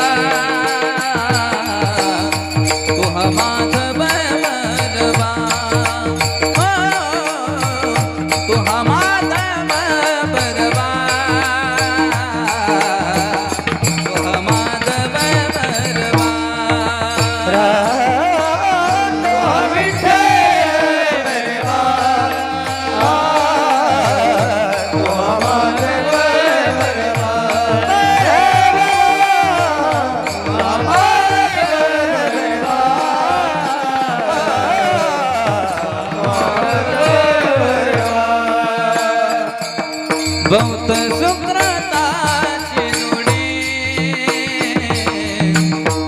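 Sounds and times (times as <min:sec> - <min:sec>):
hand drum steady beat: 0:00.0 - 0:46.0.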